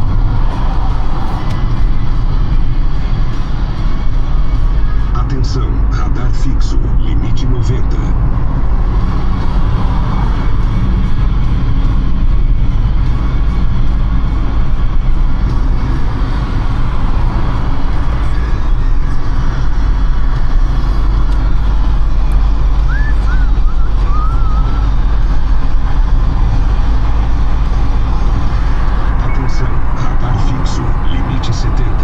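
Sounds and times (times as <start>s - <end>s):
road and tyre rumble: 0.0s - 32.0s.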